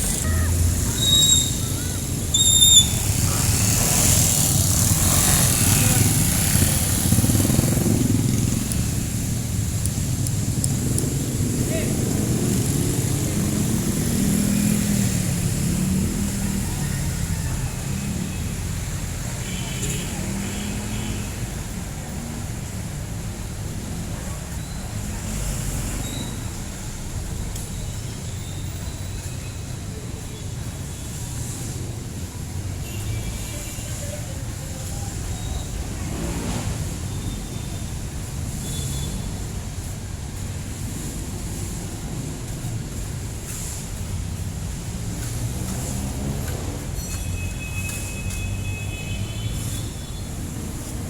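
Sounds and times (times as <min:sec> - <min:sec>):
street traffic: 0:00.0 - 0:51.0
vehicle engine rumble nearby: 0:00.0 - 0:51.0.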